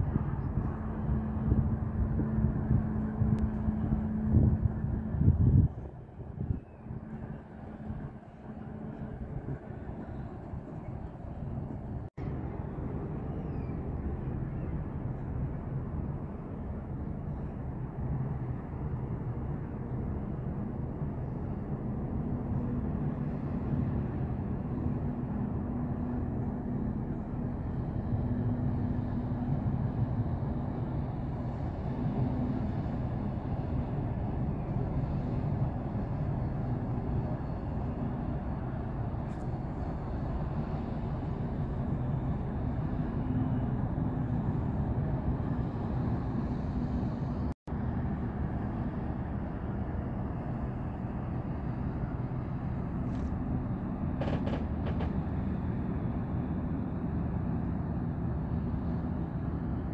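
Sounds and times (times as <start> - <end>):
ship engine drone: 0.0 - 59.9.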